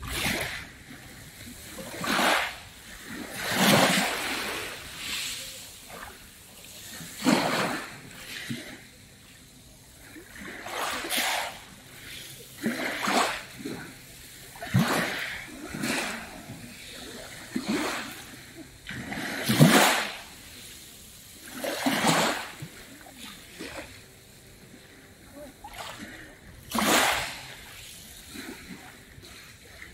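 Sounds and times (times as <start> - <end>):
waves splashing on pebbles: 0.0 - 9.2, 9.8 - 29.9.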